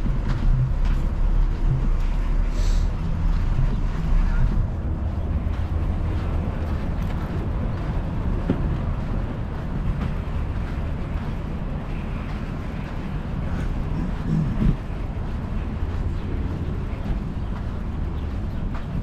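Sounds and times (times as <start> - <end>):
bicycle road noise: 0.0 - 19.0
wind buffeting microphone: 0.0 - 19.0.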